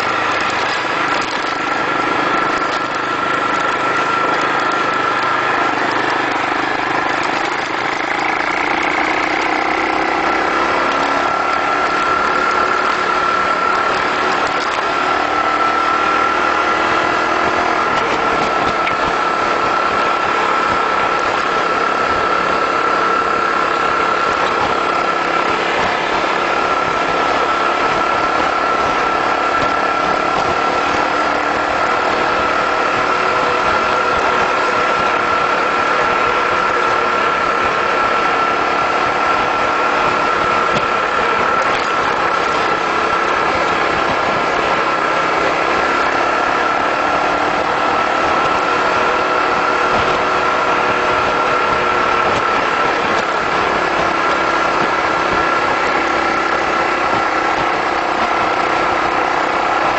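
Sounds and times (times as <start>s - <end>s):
constant high whine: 0.0s - 59.9s
motorcycle engine cruising: 0.0s - 59.9s
road noise: 0.0s - 59.9s
wind noise: 10.8s - 59.9s.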